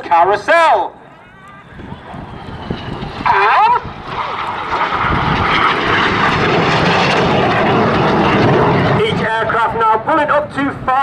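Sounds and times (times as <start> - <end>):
jet roar: 0.8 - 10.2.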